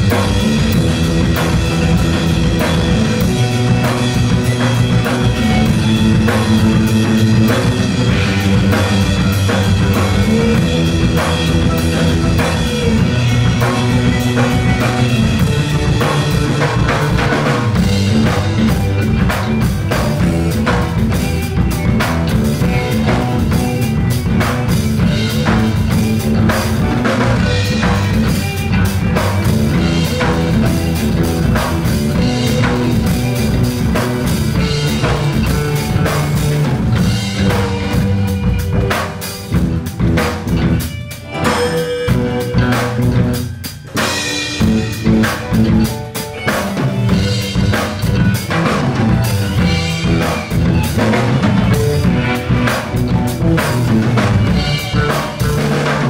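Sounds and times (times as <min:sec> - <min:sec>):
bass guitar: 0:00.0 - 0:56.0
drum kit: 0:00.0 - 0:56.0
violin: 0:00.0 - 0:56.0.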